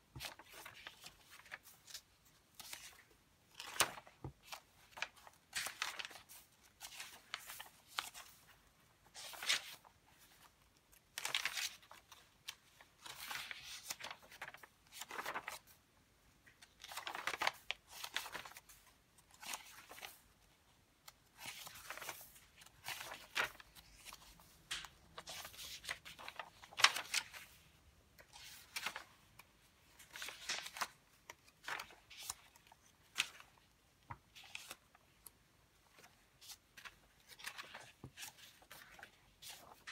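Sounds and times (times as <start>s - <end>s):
paper pages rustling: 0.1s - 39.9s.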